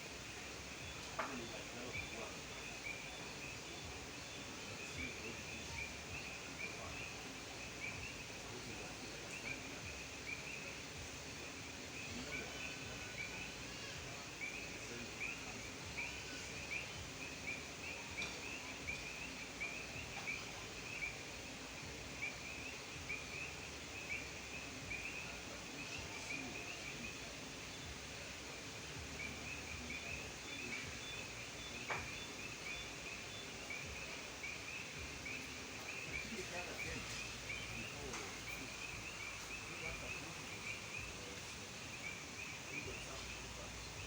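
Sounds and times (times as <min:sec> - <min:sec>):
faint outdoor hiss: 0:00.0 - 0:44.0
frogs chirping: 0:00.0 - 0:44.0.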